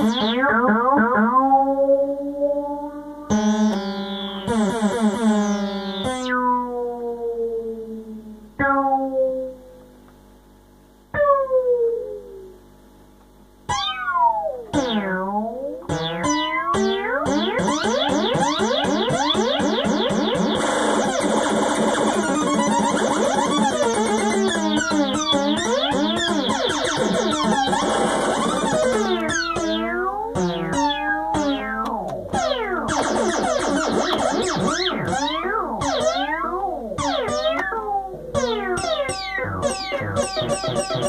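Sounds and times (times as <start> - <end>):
synthesizer pitch glides and warbling: 0.0 - 9.9, 11.0 - 12.6, 13.7 - 41.0.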